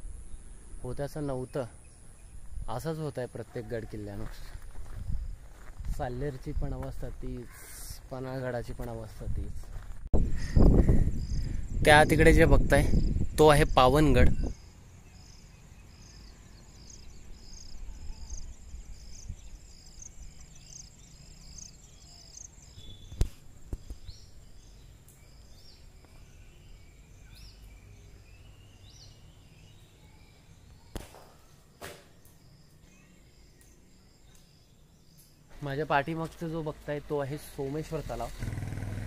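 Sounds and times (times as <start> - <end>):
insects chirping: 0.0 - 9.4, 10.2 - 39.0.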